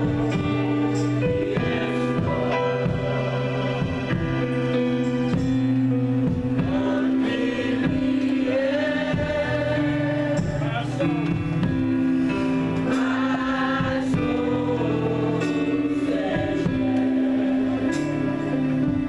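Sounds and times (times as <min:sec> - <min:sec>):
gospel singing over chords: 0:00.0 - 0:19.0.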